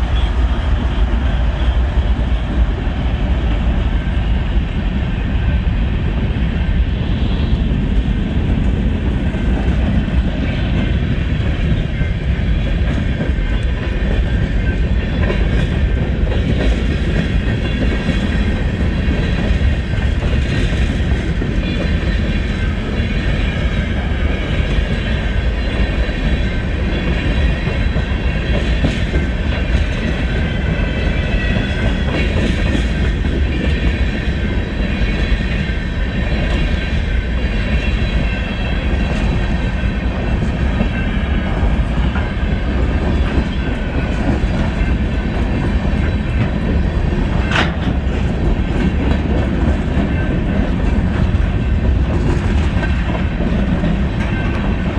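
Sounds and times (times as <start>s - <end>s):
freight train rumbling: 0.0s - 54.9s.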